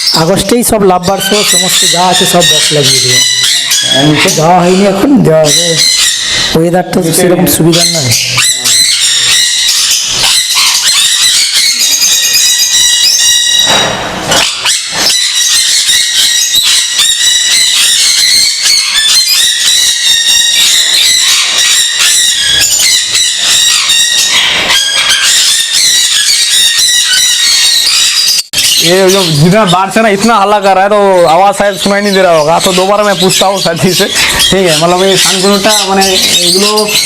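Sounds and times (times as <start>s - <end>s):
parrots screeching and squawking: 0.0s - 37.0s.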